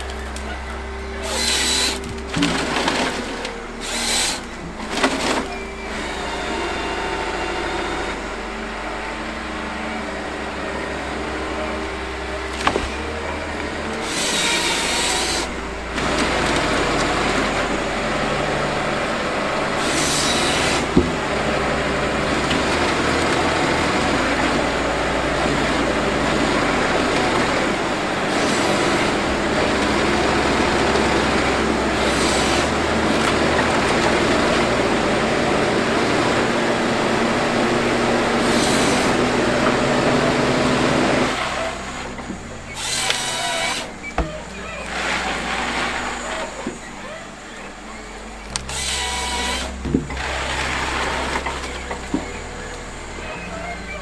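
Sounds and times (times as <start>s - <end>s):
wood crusher running: 0.0s - 54.0s.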